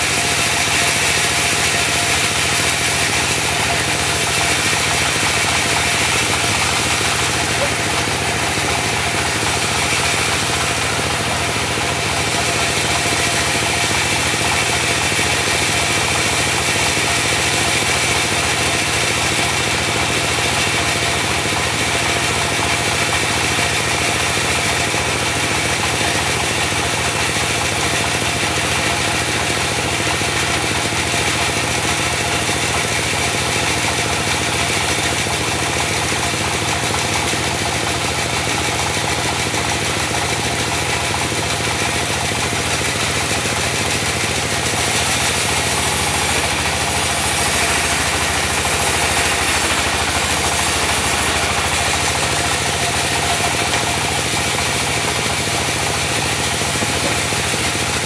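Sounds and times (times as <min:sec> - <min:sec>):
diesel engine running: 0:00.0 - 0:33.2, 0:34.0 - 0:58.0.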